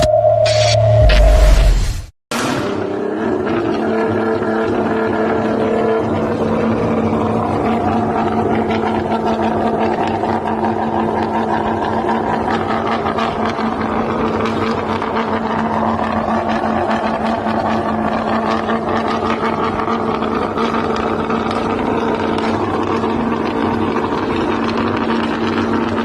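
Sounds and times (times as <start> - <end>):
car engine running loudly: 0.0 - 26.0.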